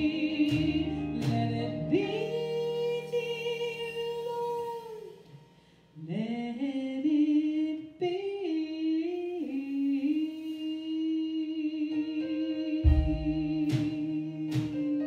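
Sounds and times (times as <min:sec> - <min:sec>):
woman singing: 0:00.0 - 0:05.4, 0:06.0 - 0:15.0.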